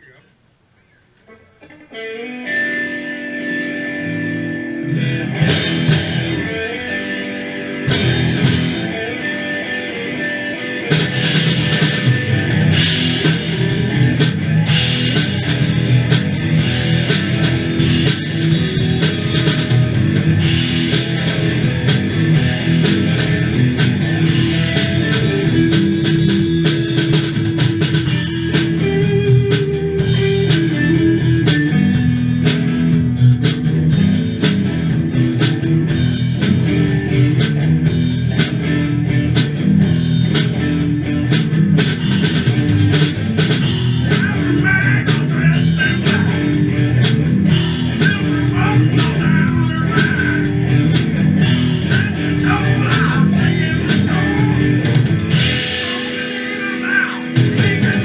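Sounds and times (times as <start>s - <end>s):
electric guitars: 1.2s - 58.0s
drum kit: 4.8s - 58.0s.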